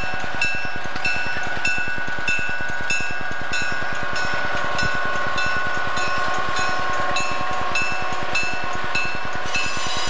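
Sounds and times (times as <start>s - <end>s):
diesel locomotive engine pulsing: 0.0s - 10.0s
locomotive bell ringing: 0.0s - 10.0s.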